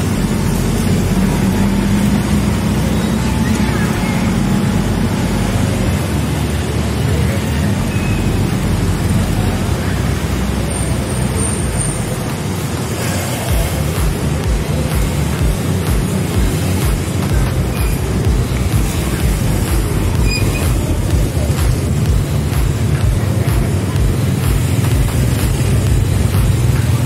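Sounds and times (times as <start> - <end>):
motorcycles and cars on busy street: 0.0 - 27.0.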